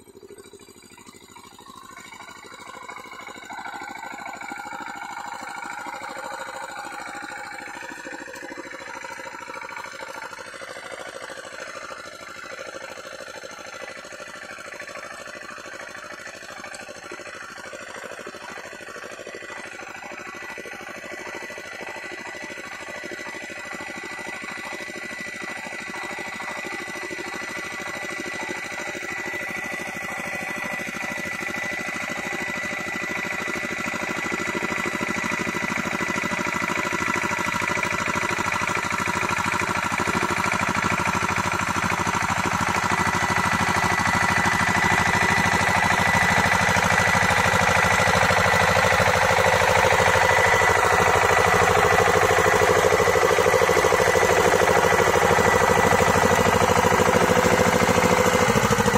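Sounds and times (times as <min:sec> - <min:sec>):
diesel tiller engine running: 0:00.0 - 0:58.9.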